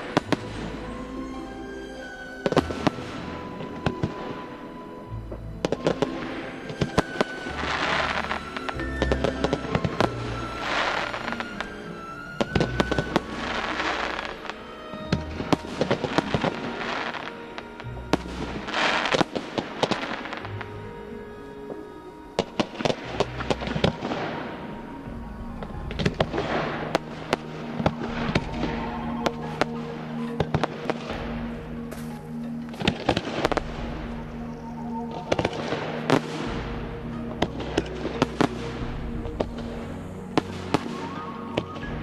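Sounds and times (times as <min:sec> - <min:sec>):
fireworks bangs and crackles: 0:00.0 - 0:00.8, 0:02.4 - 0:04.6, 0:05.6 - 0:11.8, 0:12.4 - 0:20.7, 0:22.4 - 0:32.2, 0:32.8 - 0:34.3, 0:35.0 - 0:42.0
music: 0:00.0 - 0:42.0.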